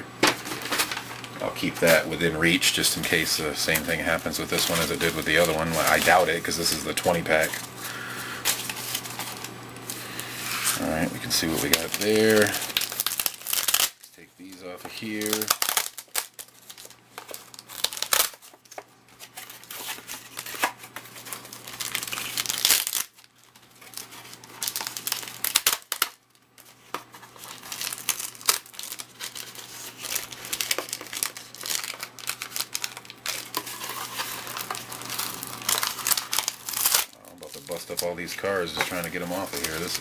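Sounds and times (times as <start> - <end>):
crinkling card packs peeled off tape: 0.2 - 40.0.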